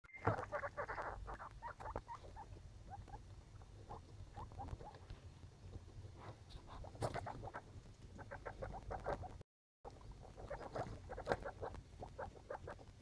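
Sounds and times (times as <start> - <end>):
guinea pigs squeaking: 0.1 - 5.1, 6.5 - 13.0.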